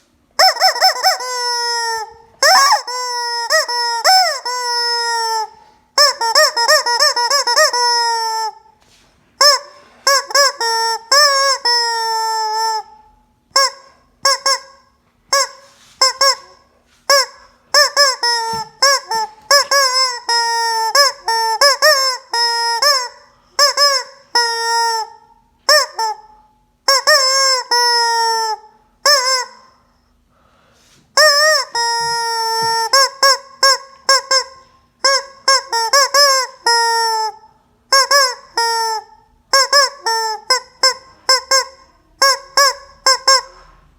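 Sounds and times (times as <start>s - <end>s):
rubber chicken toy squawking: 0.4s - 8.7s, 9.4s - 29.8s, 31.1s - 43.7s.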